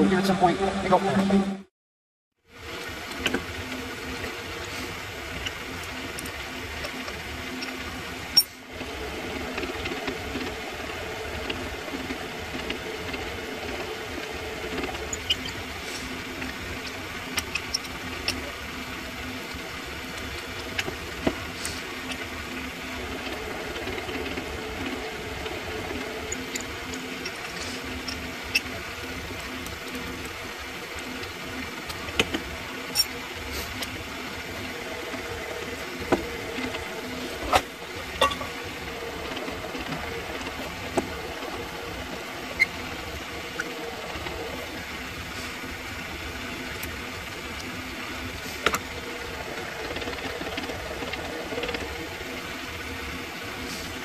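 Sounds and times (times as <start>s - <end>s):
lathe motor and gear hum: 2.4s - 54.0s.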